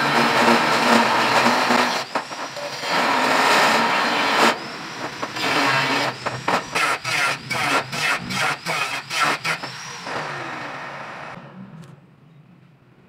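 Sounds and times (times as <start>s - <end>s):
angle grinder cutting steel: 0.0s - 11.4s.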